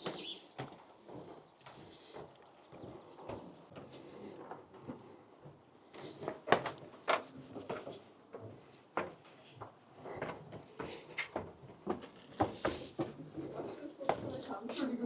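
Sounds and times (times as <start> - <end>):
footsteps on wooden boardwalk: 0.0 - 15.0.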